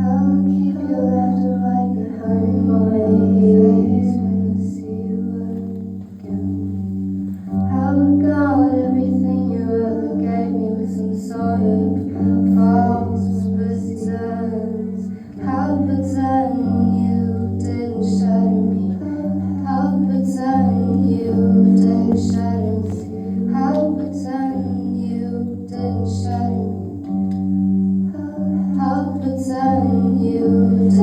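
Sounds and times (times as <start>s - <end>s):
person singing: 0.0s - 6.0s, 7.5s - 27.2s, 28.1s - 31.0s
plucked strings: 0.0s - 31.0s.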